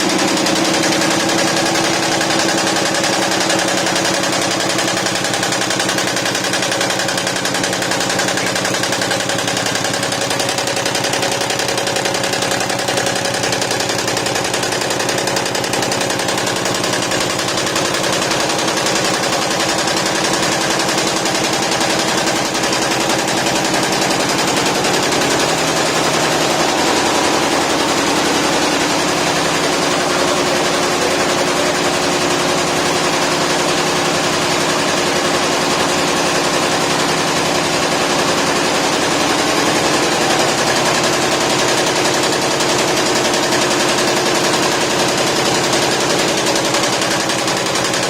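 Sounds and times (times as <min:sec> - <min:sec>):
embroidery machine needle clatter: 0:00.0 - 0:48.0
motor hum: 0:00.0 - 0:48.0.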